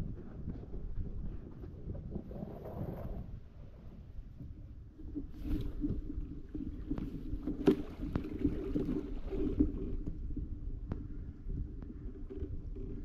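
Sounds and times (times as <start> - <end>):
water lapping against kayak hull: 0.1 - 13.0.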